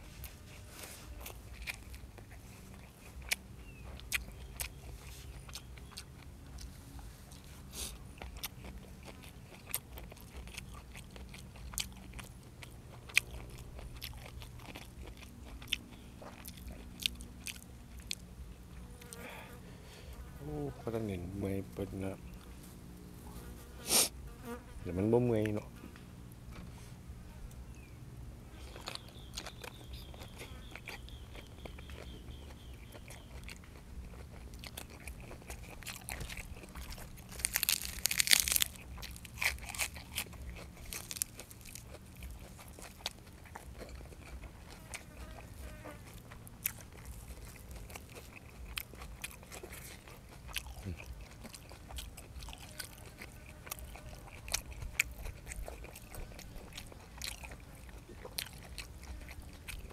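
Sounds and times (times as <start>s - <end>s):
chewing and crunching food: 0.0s - 20.3s, 20.9s - 59.9s.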